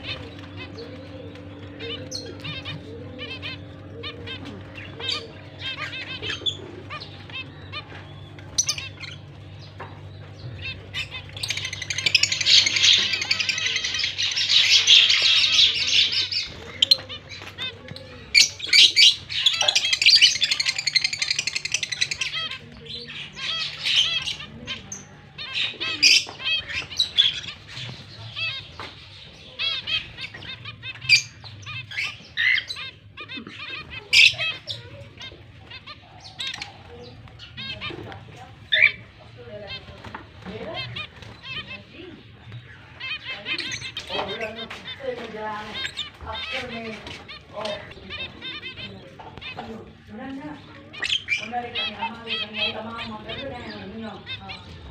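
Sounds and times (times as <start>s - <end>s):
lovebirds chattering and chirping: 0.0s - 54.9s.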